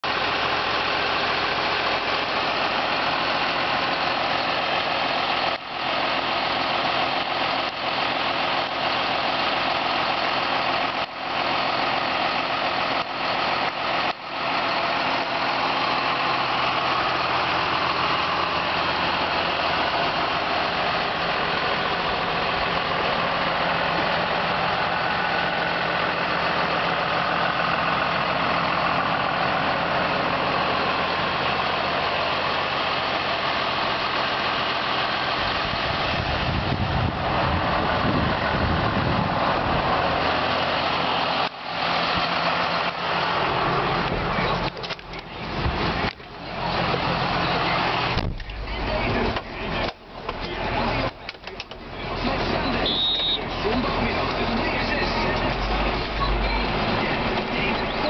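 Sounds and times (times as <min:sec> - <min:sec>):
diesel tractor engine idling: 0:00.0 - 0:58.0.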